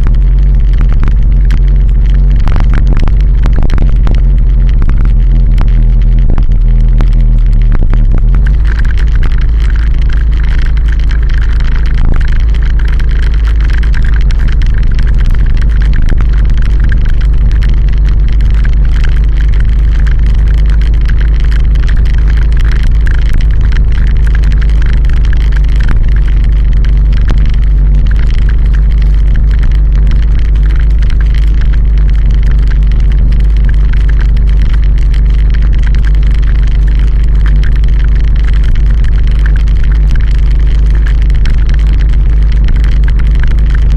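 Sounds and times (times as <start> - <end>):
vehicle road and engine rumble: 0.0 - 43.9.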